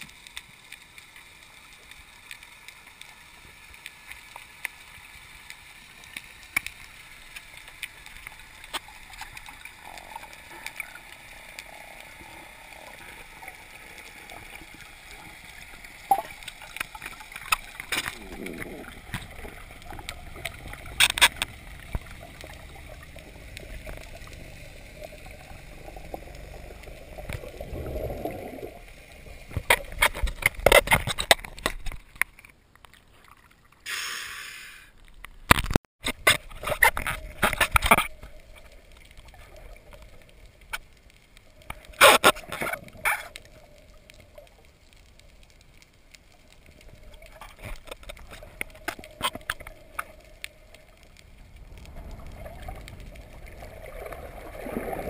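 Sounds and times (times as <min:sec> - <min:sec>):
water splashing and gurgling: 0:00.0 - 0:55.0.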